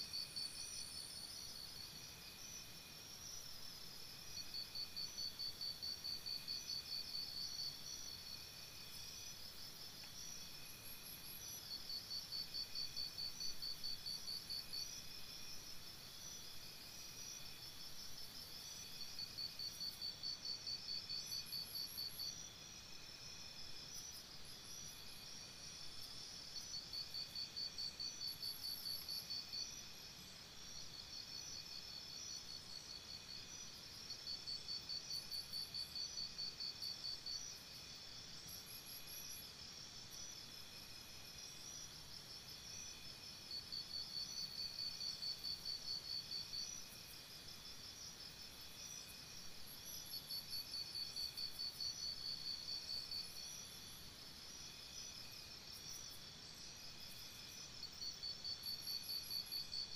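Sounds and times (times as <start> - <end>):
faint steady hiss: 0.0 - 59.9
insects chirping: 0.0 - 59.9.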